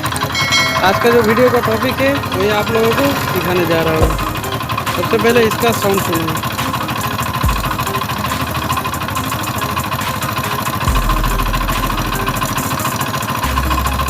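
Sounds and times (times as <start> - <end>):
motorcycle engine idling: 1.7 - 14.0
rapid engine knocking: 1.8 - 14.0.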